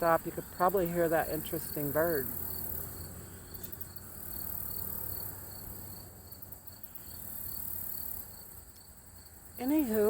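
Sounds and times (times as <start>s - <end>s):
distant road traffic: 0.0s - 10.0s
insect chirping: 0.0s - 10.0s
insects shrill trill: 0.0s - 10.0s.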